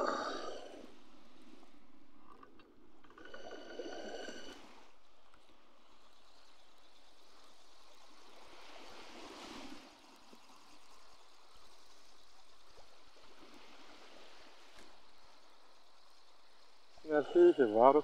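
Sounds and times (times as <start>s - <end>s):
sea water lapping at shoreline: 0.0s - 18.0s.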